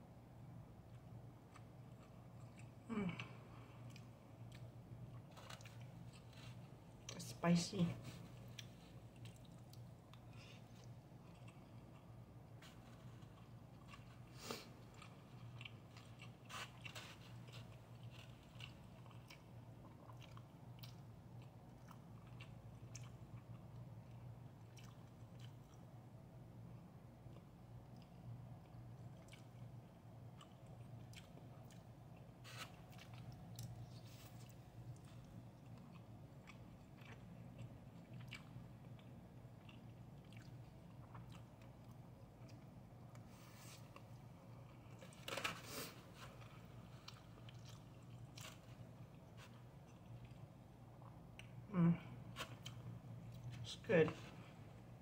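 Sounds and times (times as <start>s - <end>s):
low steady hum: 0.0s - 55.0s
person chewing: 0.8s - 7.1s, 8.2s - 25.9s, 27.2s - 53.6s.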